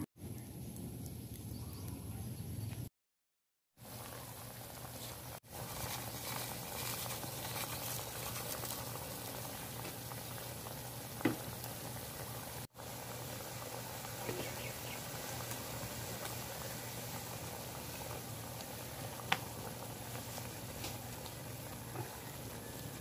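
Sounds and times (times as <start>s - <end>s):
pot bubbling at a simmer: 3.8s - 23.0s.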